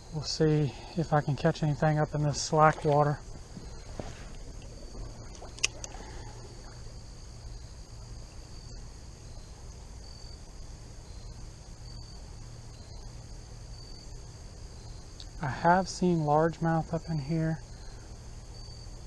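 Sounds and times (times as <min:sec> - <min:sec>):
crickets trilling: 0:00.0 - 0:19.0
low steady rumble: 0:00.0 - 0:19.0
short insect chirps: 0:00.0 - 0:19.0.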